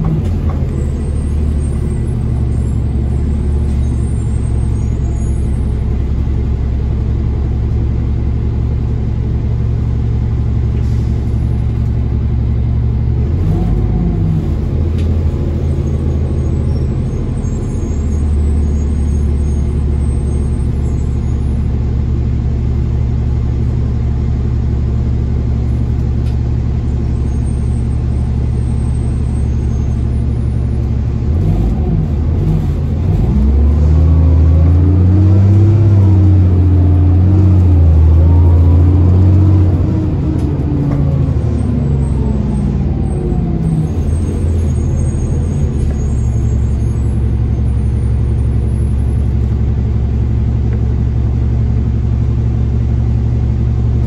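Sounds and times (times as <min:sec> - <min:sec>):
bus engine idling: 0:00.0 - 0:54.0
bus engine revving: 0:00.0 - 0:54.0.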